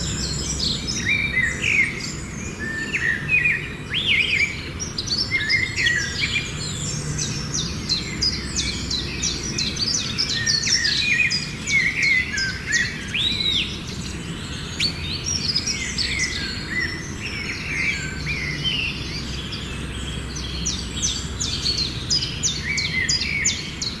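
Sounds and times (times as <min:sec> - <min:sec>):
sparrows chirping: 0:00.0 - 0:24.0.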